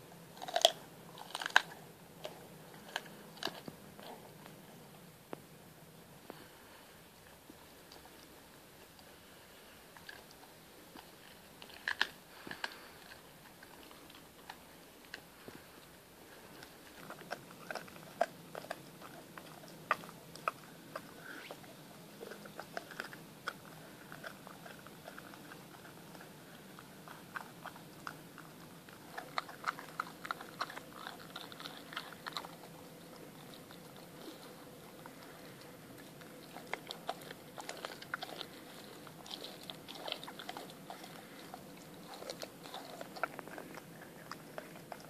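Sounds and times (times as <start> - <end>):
dog crunching bone: 0.3 - 4.7, 9.9 - 45.0.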